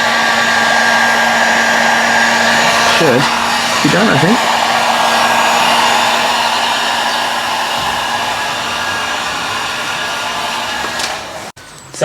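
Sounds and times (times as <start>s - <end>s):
heat gun hot-air hiss: 0.0s - 11.5s.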